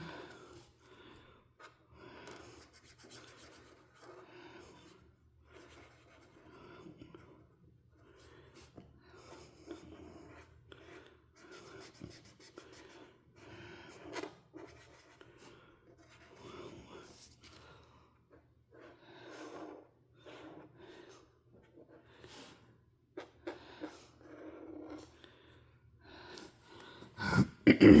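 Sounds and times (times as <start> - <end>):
crayon scratching on paper: 1.6 - 17.8, 18.4 - 22.6, 23.2 - 25.2.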